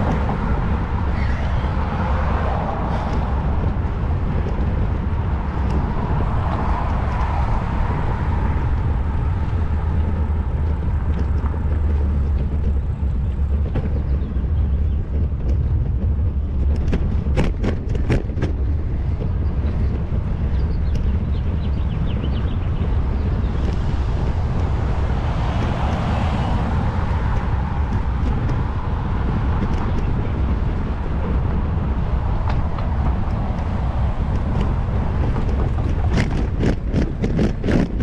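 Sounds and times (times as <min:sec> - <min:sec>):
road rumble: 0:00.0 - 0:38.0
wind on microphone: 0:00.0 - 0:38.0.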